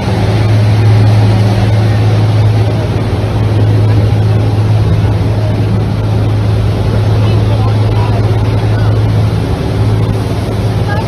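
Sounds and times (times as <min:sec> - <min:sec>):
boat engine droning: 0:00.0 - 0:11.0
wind and water rushing: 0:00.0 - 0:11.0.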